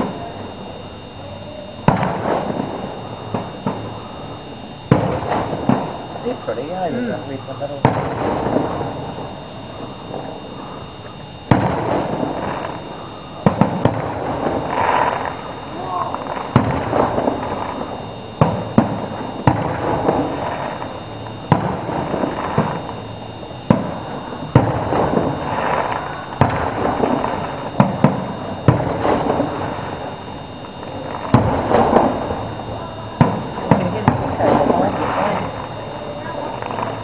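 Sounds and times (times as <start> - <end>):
fireworks bangs: 0.0 - 37.0
steady background noise: 0.0 - 37.0.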